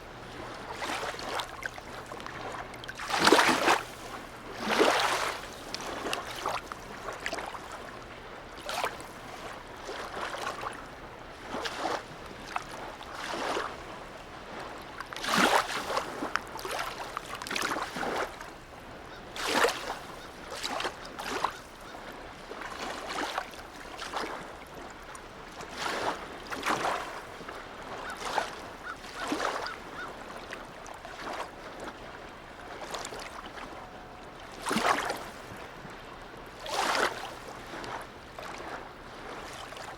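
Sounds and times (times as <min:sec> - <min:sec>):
waves lapping against shore: 0:00.0 - 0:39.9.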